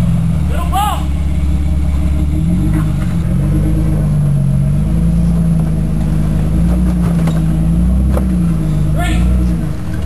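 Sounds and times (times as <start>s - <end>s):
car engine running at low speed: 0.0s - 10.0s.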